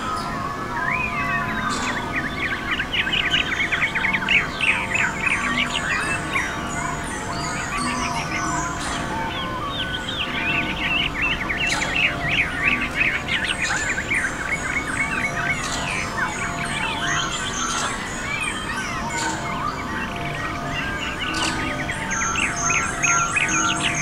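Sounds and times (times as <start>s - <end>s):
faint steady drone: 0.0s - 24.0s
small birds chirping and twittering: 0.0s - 24.0s.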